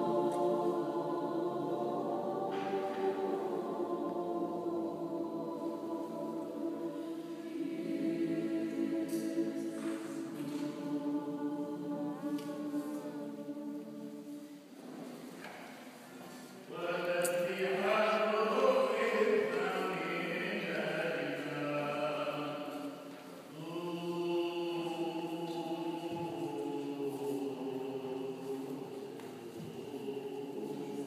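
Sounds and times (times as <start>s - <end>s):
choir chanting: 0.0s - 14.7s, 16.7s - 31.0s.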